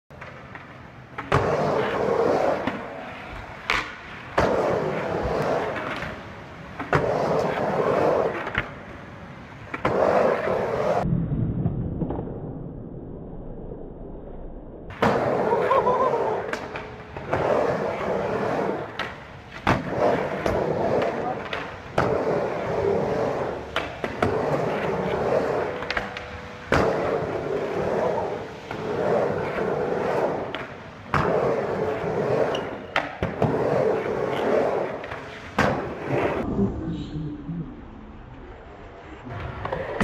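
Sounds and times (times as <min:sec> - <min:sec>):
skateboard wheels rolling: 0:00.1 - 0:11.1, 0:14.9 - 0:36.5, 0:38.3 - 0:40.0.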